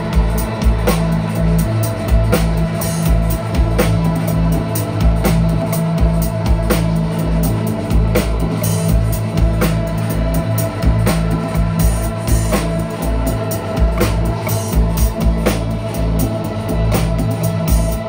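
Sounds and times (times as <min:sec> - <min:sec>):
drum kit steady beat: 0:00.0 - 0:18.0
electric guitar: 0:00.0 - 0:18.0.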